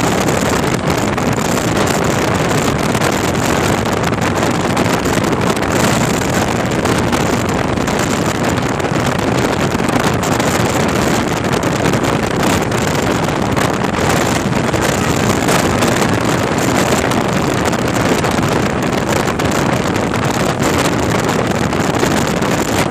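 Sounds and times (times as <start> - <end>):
motorcycle engine running: 0.0 - 22.9
wind rush on microphone: 0.0 - 22.9.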